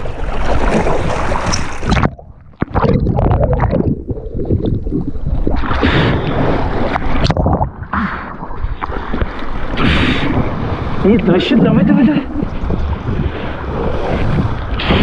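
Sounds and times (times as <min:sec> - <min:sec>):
water sloshing and gurgling: 0:00.0 - 0:15.0
water splashes: 0:00.0 - 0:15.0
wind buffeting microphone: 0:02.8 - 0:15.0.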